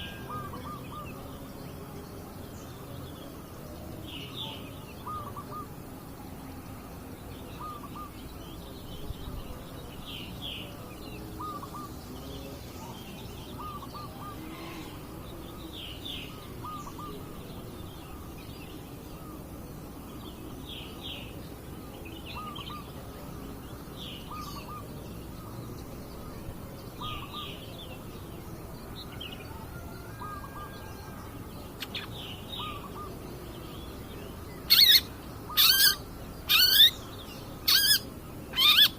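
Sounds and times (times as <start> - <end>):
bird chirping calls: 0.0 - 38.9
steady background hiss: 0.0 - 38.9.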